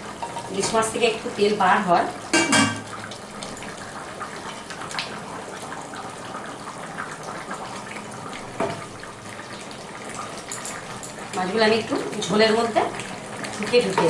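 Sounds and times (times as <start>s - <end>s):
curry bubbling in a pan: 0.0s - 14.0s.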